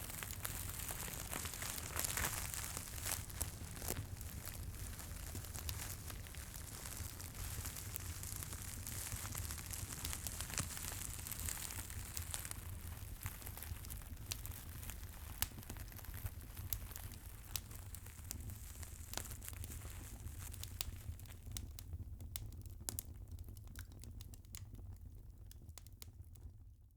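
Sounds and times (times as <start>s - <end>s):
low fire rumble: 0.0s - 25.9s
fireplace crackling and popping: 0.0s - 26.6s.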